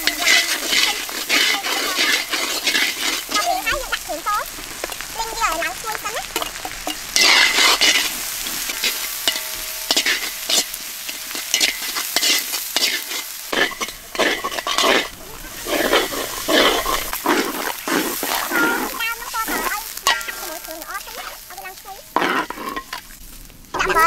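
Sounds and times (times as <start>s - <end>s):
metal spatula scraping a wok: 0.0s - 24.0s
onions sizzling in hot oil: 0.0s - 24.0s.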